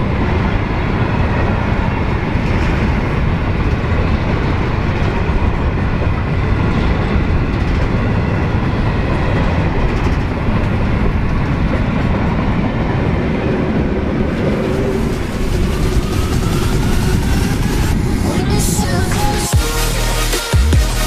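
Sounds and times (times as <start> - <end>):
freight train wheels clicking: 0.0 - 18.1
diesel locomotive: 0.0 - 21.0.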